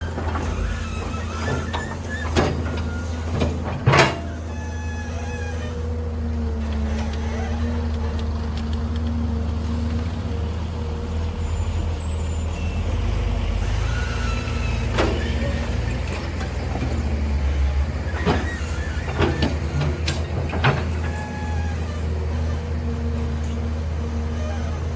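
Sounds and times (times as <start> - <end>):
heavy machine engine humming: 0.0 - 24.9.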